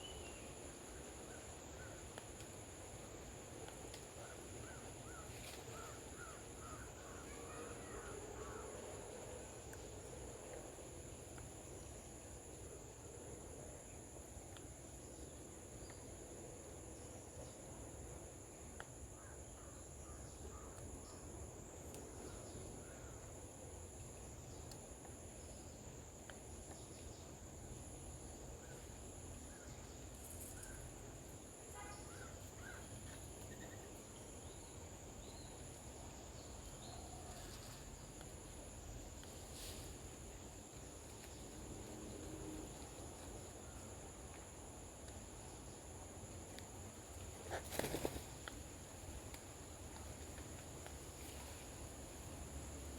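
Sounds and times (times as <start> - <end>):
rustle: 0.0 - 52.9.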